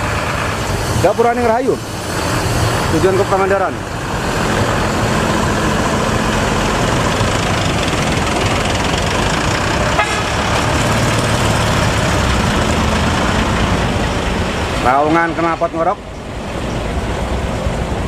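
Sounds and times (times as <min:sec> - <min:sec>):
diesel bus engine roaring: 0:00.0 - 0:18.0.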